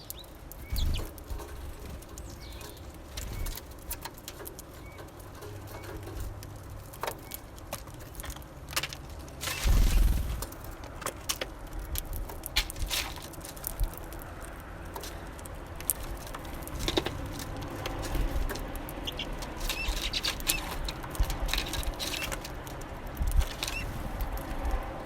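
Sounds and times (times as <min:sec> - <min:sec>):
birds pecking at feeder: 0:00.0 - 0:25.0.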